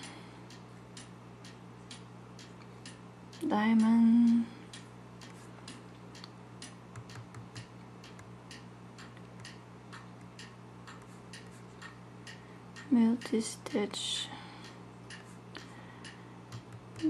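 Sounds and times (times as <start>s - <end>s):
light regular ticking: 0.0s - 17.0s
low electrical hum: 0.0s - 17.0s.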